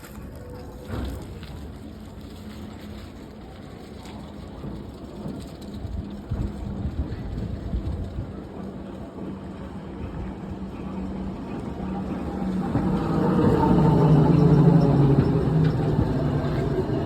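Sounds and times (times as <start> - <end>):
tram running on track: 0.0 - 17.0.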